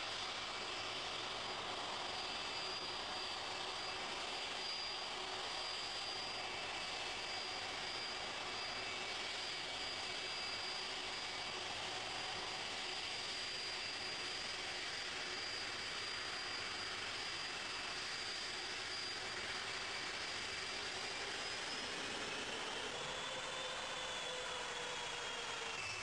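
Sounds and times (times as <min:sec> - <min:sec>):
jet engines rushing with whine: 0:00.0 - 0:26.0.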